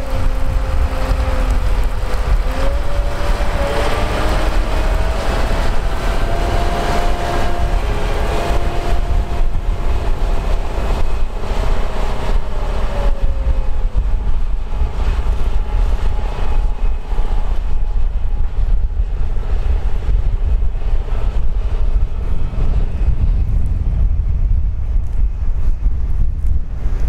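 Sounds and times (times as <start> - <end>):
tractor rumbling: 0.0 - 27.0
wind buffeting microphone: 0.0 - 27.0.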